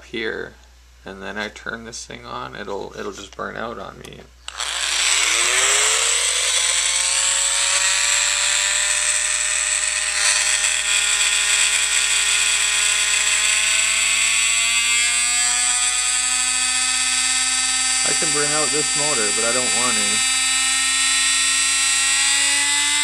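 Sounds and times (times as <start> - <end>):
electric motor whining: 4.5 - 23.0.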